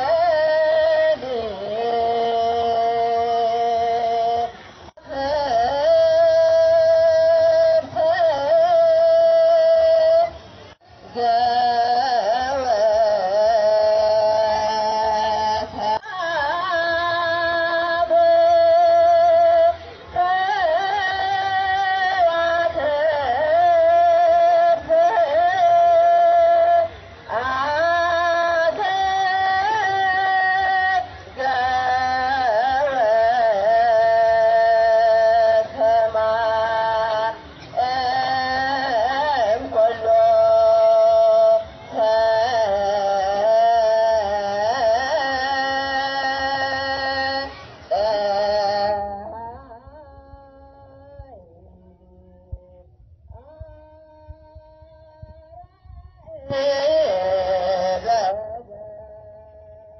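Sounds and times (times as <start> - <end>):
hymn singing: 0.0 - 59.9.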